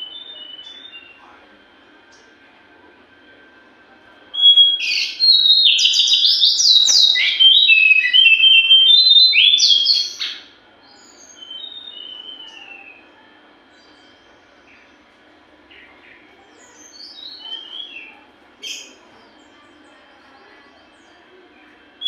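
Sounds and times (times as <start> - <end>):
songbird whistling song: 0.0 - 1.4, 4.3 - 15.1, 15.7 - 21.4.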